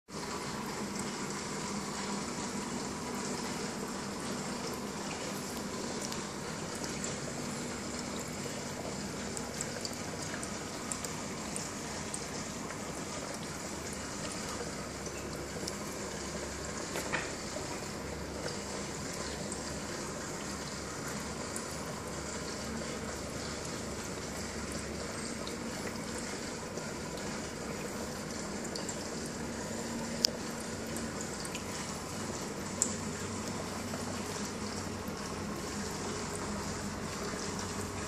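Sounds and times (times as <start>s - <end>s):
aquarium water circulating: 0.0s - 38.0s.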